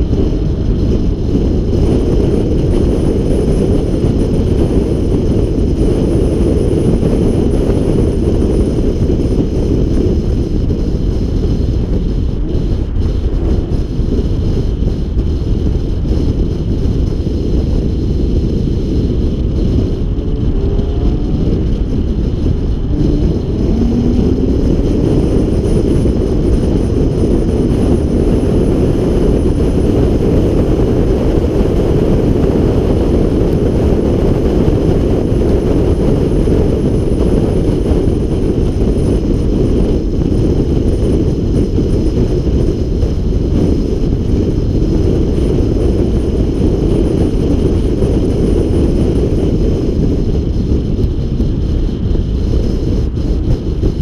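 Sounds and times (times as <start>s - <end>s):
car engine and tyre noise: 0.0s - 54.0s
wind buffeting microphone: 0.0s - 54.0s.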